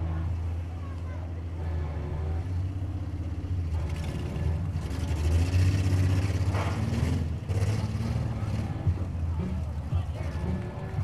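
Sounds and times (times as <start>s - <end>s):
engines droning and revving: 0.0s - 11.0s.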